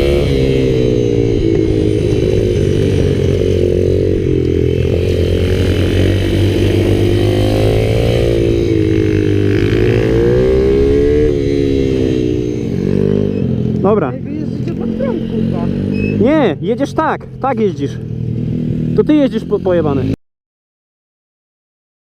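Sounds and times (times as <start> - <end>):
minibike engines revving: 0.0 - 20.2.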